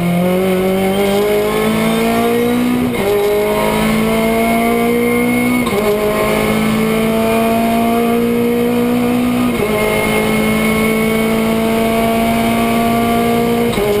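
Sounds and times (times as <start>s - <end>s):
gear changes: 0.0s - 14.0s
race car engine revving: 0.0s - 14.0s.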